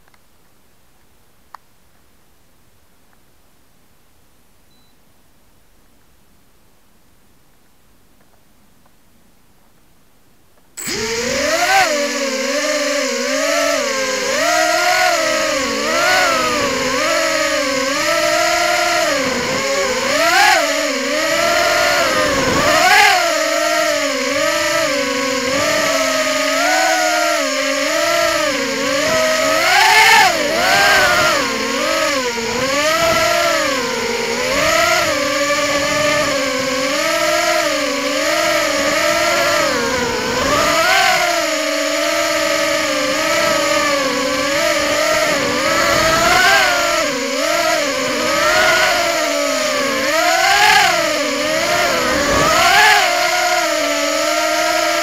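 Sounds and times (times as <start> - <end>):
drone motors whining: 10.8 - 55.0.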